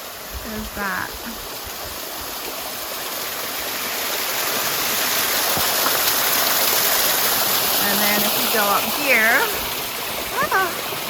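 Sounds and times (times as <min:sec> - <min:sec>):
water rushing like a stream: 0:00.0 - 0:11.0.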